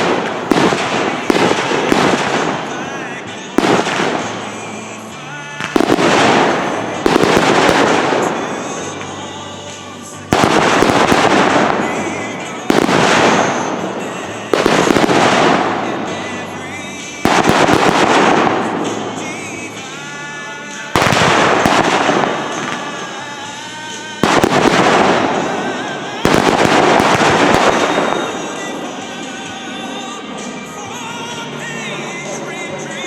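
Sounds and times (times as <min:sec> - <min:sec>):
fireworks booming: 0:00.0 - 0:20.0, 0:21.0 - 0:30.4
fireworks crackling: 0:00.0 - 0:33.0.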